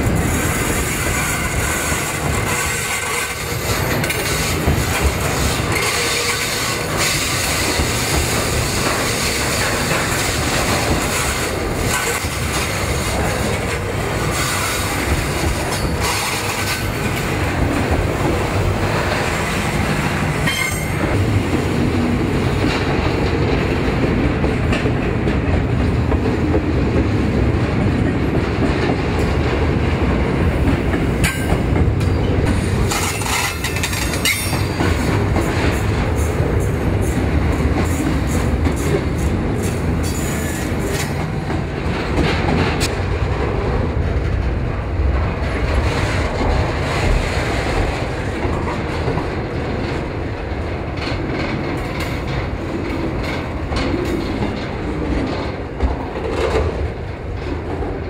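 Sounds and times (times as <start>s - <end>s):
freight wagons rumbling on rails: 0.0s - 58.0s.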